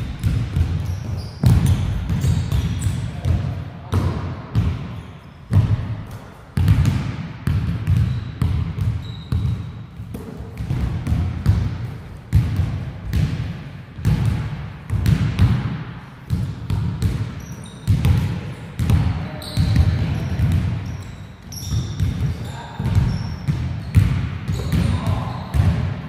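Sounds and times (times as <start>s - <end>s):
basketball bouncing on court: 0.0s - 26.0s.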